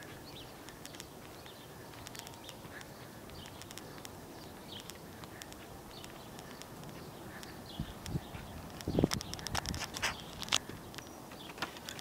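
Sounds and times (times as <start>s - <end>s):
light clicks: 0.0s - 12.0s
small birds chirping: 0.0s - 12.0s.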